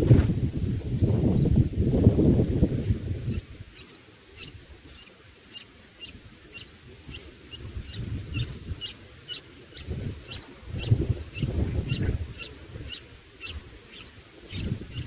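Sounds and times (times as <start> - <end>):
nestlings begging calls: 2.3 - 15.0.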